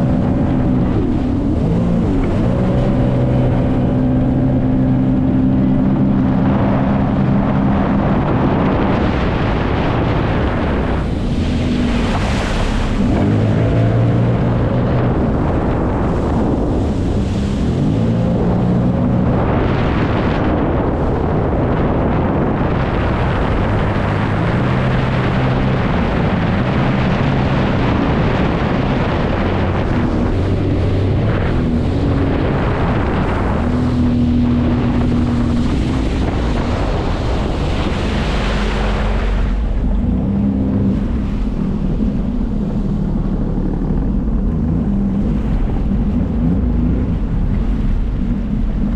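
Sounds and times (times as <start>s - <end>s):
jet ski engine running: 0.0s - 48.9s
wind on microphone: 0.0s - 48.9s.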